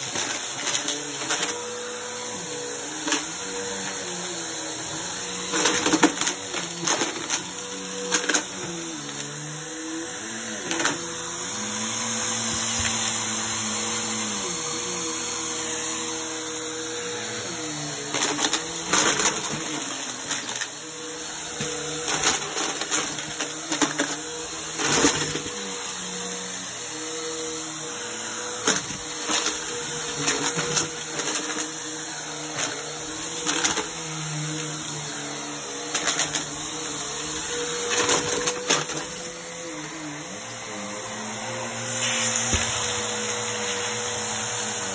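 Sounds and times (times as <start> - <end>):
small objects clattering in vacuum: 0.0 - 40.6, 41.3 - 44.9
vacuum cleaner running: 0.0 - 44.9.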